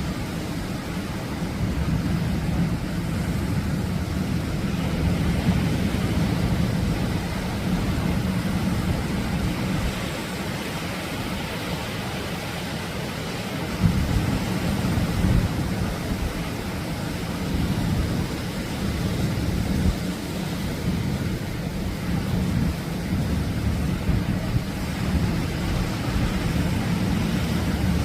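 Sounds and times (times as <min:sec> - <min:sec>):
surf waves breaking: 0:00.0 - 0:28.0.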